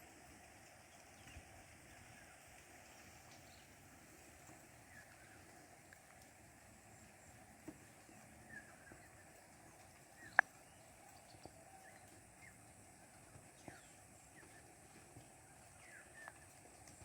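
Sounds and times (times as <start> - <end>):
faint rain hiss: 0.0 - 17.0.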